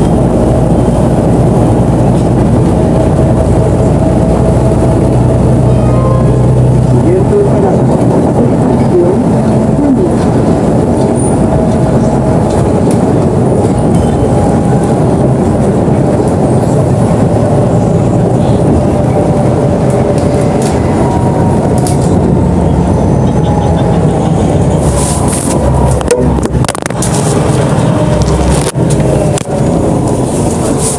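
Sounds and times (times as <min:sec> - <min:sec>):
bus engine rumble: 0:00.0 - 0:30.9.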